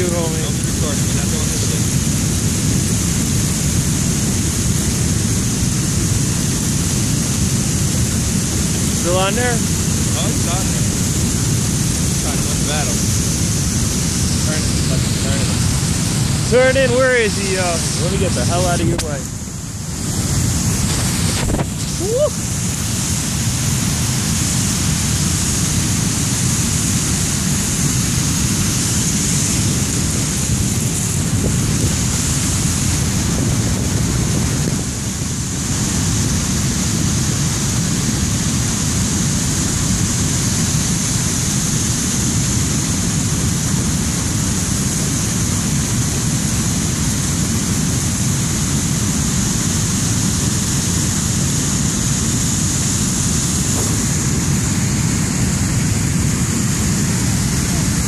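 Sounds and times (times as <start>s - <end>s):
water rushing over dam spillway: 0.0s - 58.0s.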